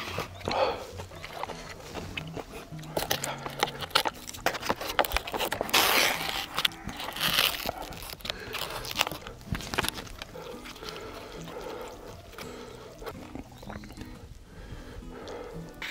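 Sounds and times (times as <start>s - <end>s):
mouth clicks: 0.0s - 15.9s
person chewing noodles: 0.0s - 15.9s
slurping noodles: 0.0s - 15.9s.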